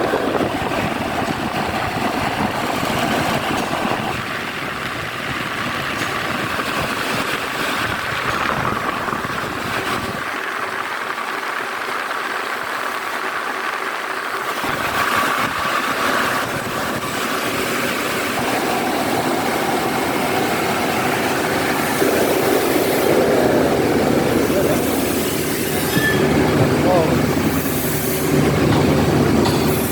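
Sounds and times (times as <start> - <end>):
air conditioning fans whooshing: 0.0 - 10.7, 14.5 - 29.9
deep machine rumble: 0.0 - 12.0, 14.6 - 29.9.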